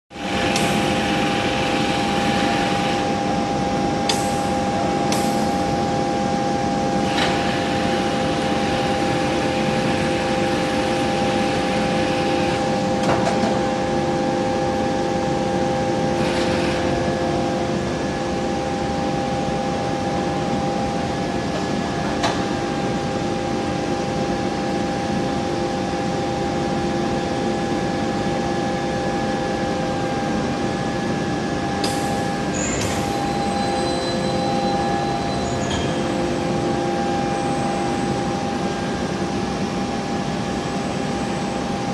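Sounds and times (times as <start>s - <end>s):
furnace machine hum with two tones: 0.1s - 41.9s.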